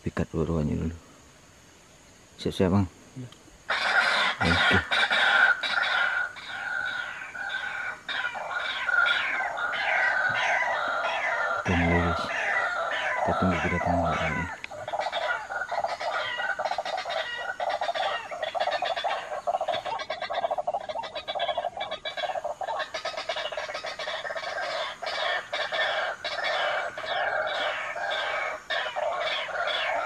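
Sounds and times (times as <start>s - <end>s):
game-bird lure clucking calls: 3.7s - 30.0s.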